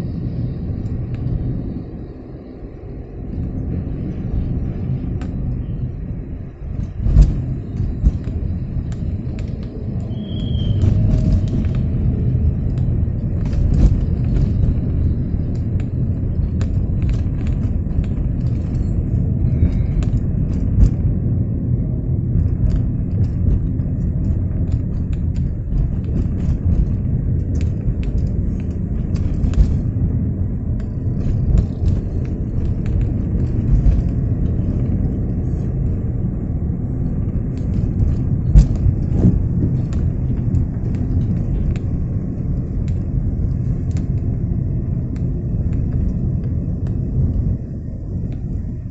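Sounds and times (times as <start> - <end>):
car engine rumble: 0.0 - 48.9.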